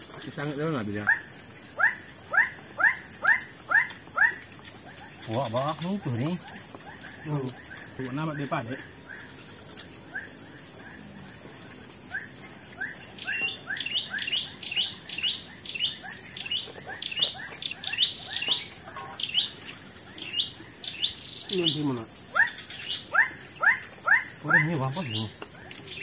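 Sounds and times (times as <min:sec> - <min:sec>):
bird chirping: 0:00.0 - 0:26.0
insects droning: 0:00.0 - 0:26.0.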